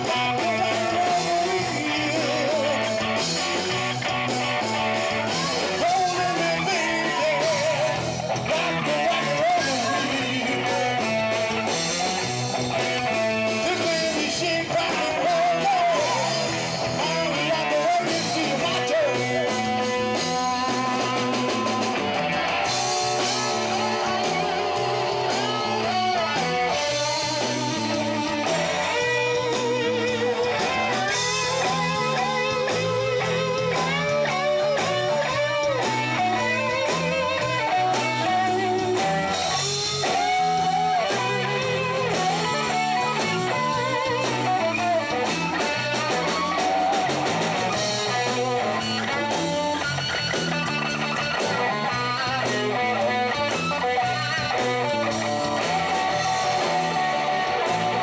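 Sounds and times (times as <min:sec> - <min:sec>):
bass guitar: 0:00.0 - 0:58.0
drums: 0:00.0 - 0:58.0
electric guitar solo: 0:00.0 - 0:58.0.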